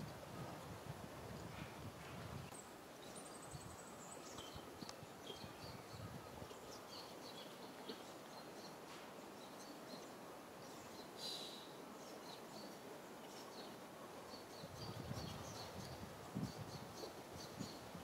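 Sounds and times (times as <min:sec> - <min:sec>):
small birds chirping: 0:02.4 - 0:17.9.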